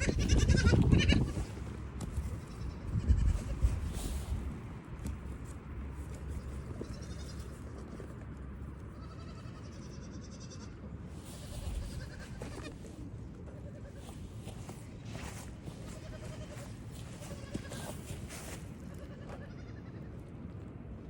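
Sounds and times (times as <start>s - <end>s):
goat kids bleating: 0.0s - 4.3s, 6.0s - 8.0s, 8.8s - 20.3s.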